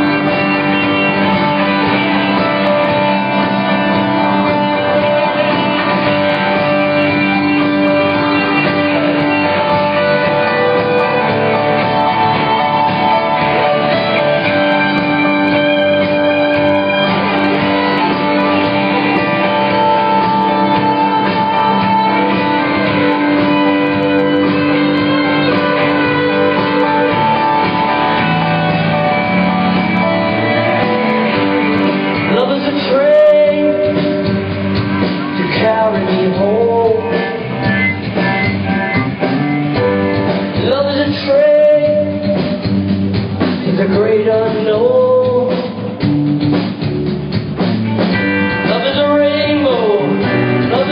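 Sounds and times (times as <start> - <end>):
bass: 0.0 - 50.9
guitar and keyboard chords: 0.0 - 50.9.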